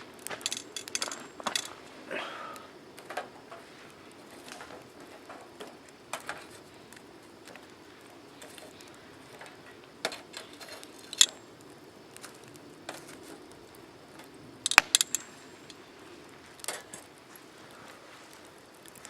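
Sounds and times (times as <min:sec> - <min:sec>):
campfire crackling: 0:00.0 - 0:19.0
sharp pops and snaps of fire: 0:00.0 - 0:19.0.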